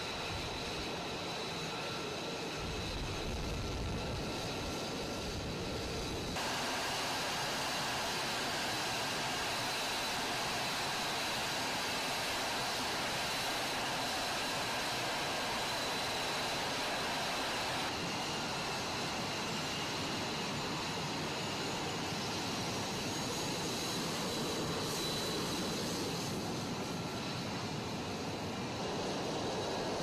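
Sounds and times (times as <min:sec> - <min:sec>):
jet engine rush with high whine: 0:00.0 - 0:30.0.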